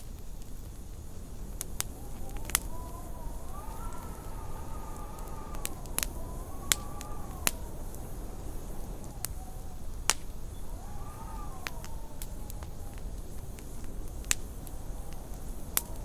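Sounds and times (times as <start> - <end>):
wind howling outside: 0.0 - 16.0
wood fire crackling and popping: 0.0 - 16.0.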